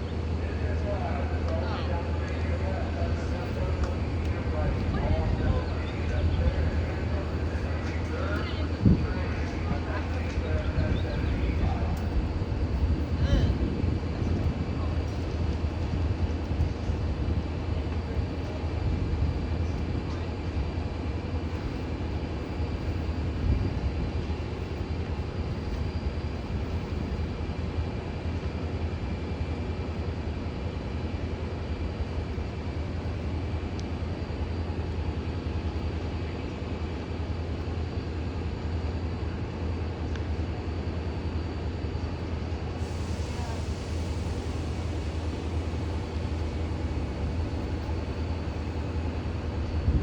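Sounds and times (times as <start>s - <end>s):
diesel locomotive idling: 0.0s - 50.0s.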